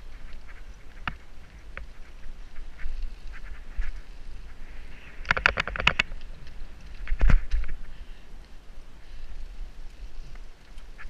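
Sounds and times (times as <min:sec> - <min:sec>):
low rumble of wind and rolling: 0:00.0 - 0:11.0.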